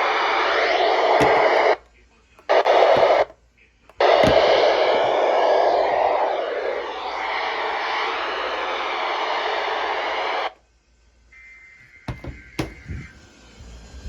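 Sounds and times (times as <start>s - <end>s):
radio static hiss: 0.0s - 10.6s, 11.4s - 13.3s.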